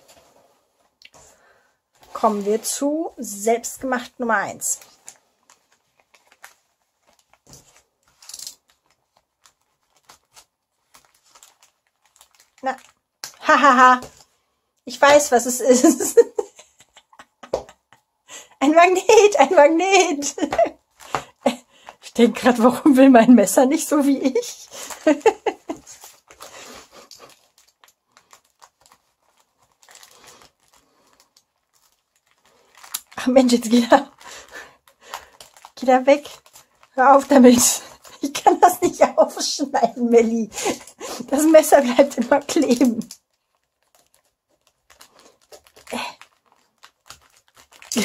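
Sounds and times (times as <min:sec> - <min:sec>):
paper package rustling: 0:00.0 - 0:18.1, 0:18.8 - 0:48.0.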